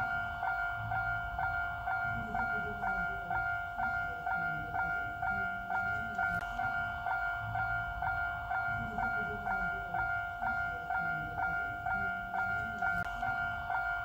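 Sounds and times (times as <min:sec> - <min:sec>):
railroad crossing bell ringing: 0:00.0 - 0:14.0.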